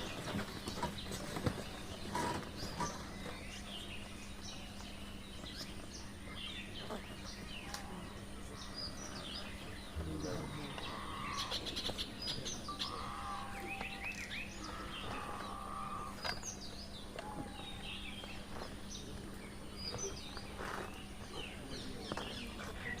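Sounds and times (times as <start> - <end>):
birds chirping and whistling: 0.0 - 23.0
faint low hum: 0.0 - 23.0.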